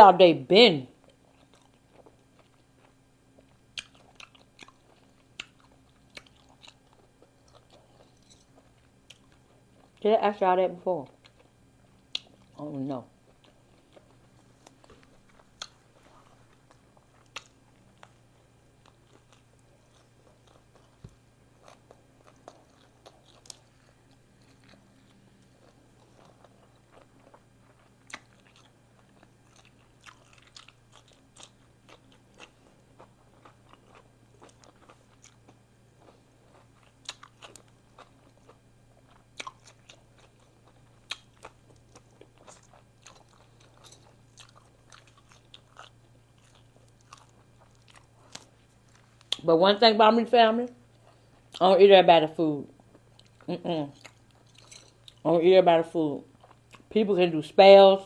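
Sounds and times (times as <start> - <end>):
faint low hum: 0.0 - 58.0
person chewing and crunching food: 1.0 - 10.0, 11.0 - 49.5, 50.6 - 51.8, 52.7 - 55.3, 56.3 - 57.0.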